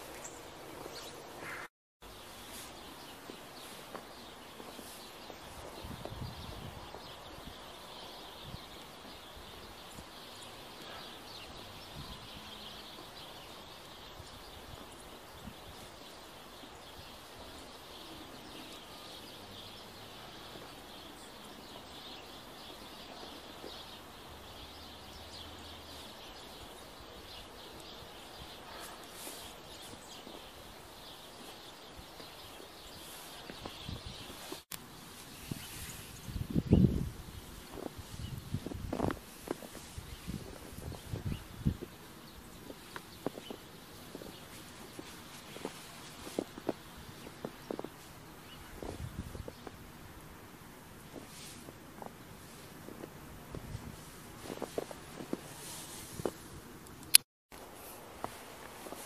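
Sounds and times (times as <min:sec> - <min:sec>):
birds chirping: 0:00.0 - 0:34.7, 0:35.3 - 0:49.8.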